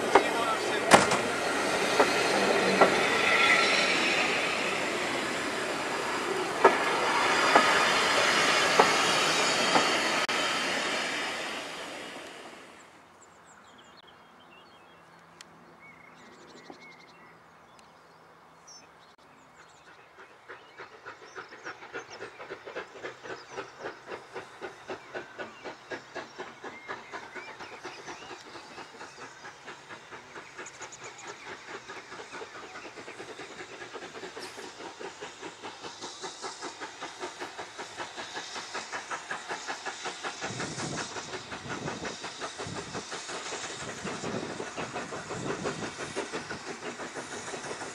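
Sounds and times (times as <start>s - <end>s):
steam locomotive exhaust chuffs: 0.0s - 13.0s, 19.6s - 47.9s.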